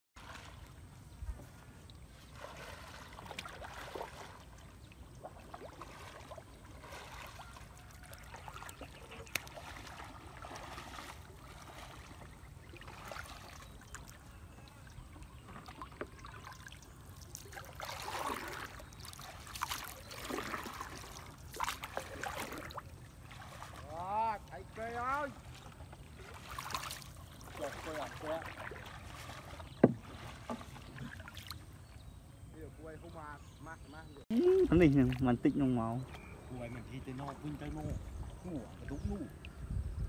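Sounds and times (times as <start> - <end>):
water lapping and splashing: 0.2 - 40.0.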